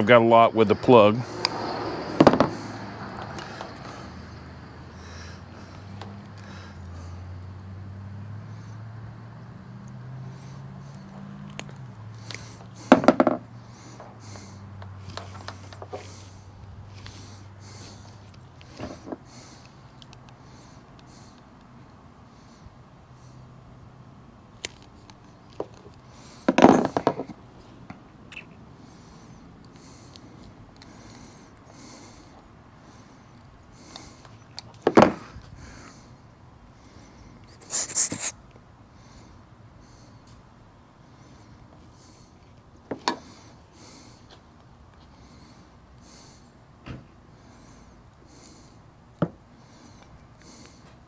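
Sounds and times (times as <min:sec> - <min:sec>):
breathing close to microphone: 0:01.2 - 0:09.0, 0:10.1 - 0:23.6, 0:25.9 - 0:27.7, 0:28.7 - 0:51.0.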